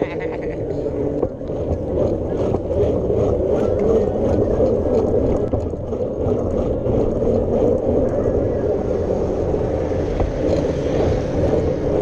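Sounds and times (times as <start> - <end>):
road riding rush: 0.0 - 12.0
wind on microphone: 0.0 - 12.0.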